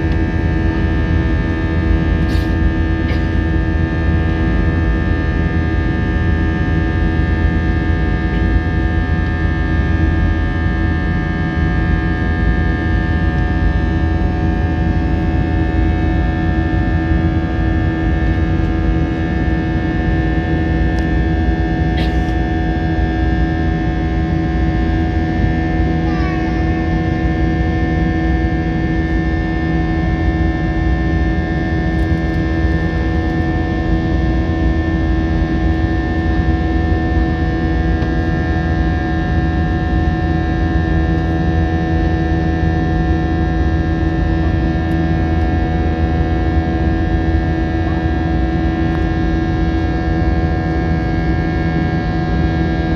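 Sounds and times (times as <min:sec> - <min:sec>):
jet engine drone in cabin: 0:00.0 - 0:52.9.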